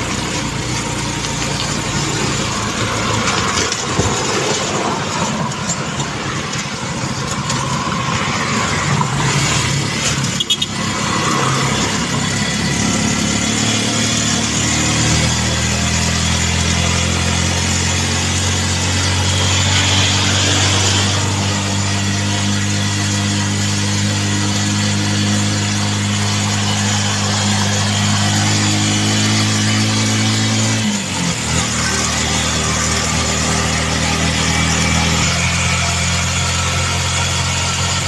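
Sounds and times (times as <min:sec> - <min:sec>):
vehicle engine running: 0:00.0 - 0:38.0
wind and road noise: 0:00.0 - 0:38.0.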